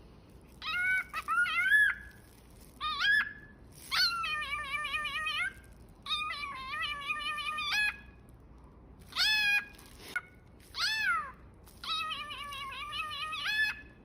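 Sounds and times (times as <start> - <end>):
cockatiel meow-like calls: 0.6 - 2.2, 2.8 - 8.2, 9.1 - 14.0.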